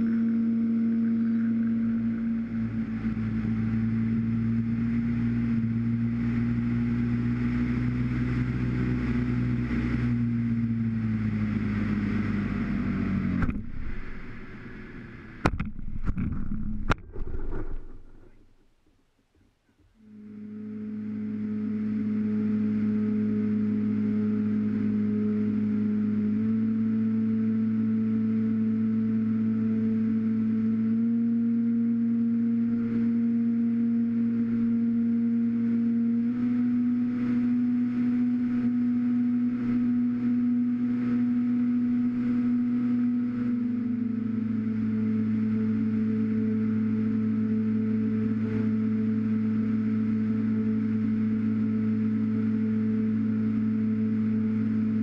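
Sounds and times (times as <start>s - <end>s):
electric motor and propeller humming: 0.0s - 18.5s, 20.0s - 55.0s.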